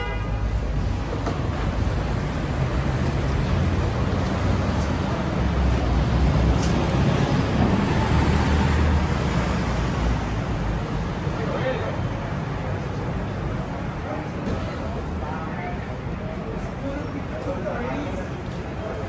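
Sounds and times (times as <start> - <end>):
road traffic noise: 0.0 - 19.0
vehicle engine rumble: 0.3 - 19.0.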